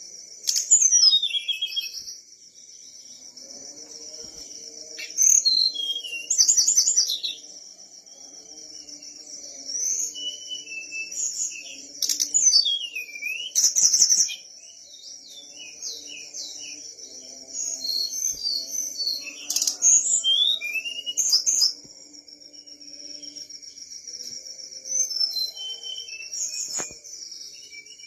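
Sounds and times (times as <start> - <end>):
songbird singing whistled notes: 0.0 - 28.0.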